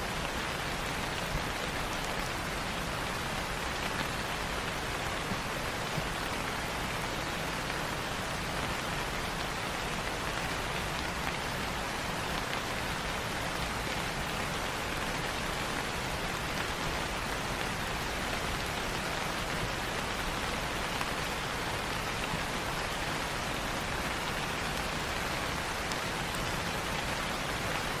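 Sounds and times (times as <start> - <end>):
light rain pattering: 0.0 - 28.0.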